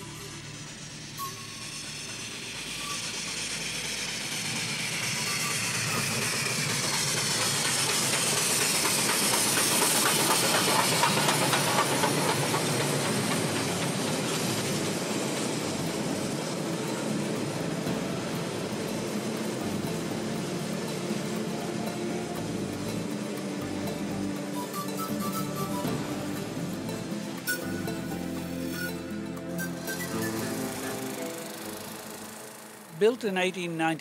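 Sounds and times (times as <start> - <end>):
hiss of steam: 0.0 - 33.6
steam locomotive passing: 0.0 - 34.0
carriage wheels clattering: 1.6 - 33.2.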